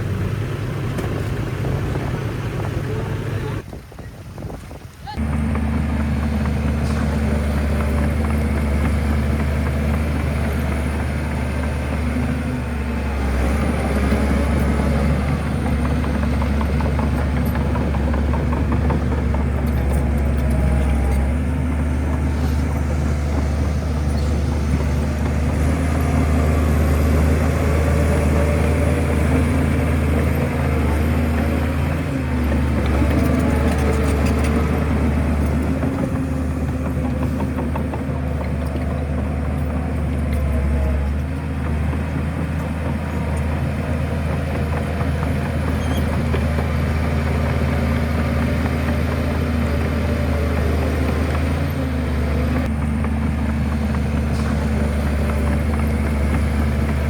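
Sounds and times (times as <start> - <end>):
heavy diesel engine running: 0.0 - 3.6, 5.2 - 57.0.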